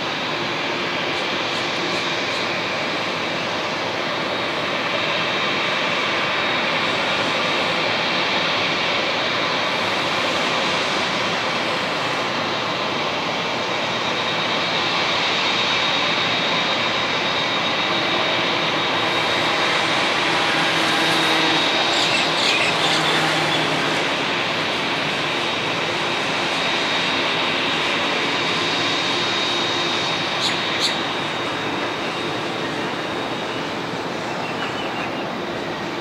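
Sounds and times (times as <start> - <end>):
jet engines whining: 0.0 - 36.0.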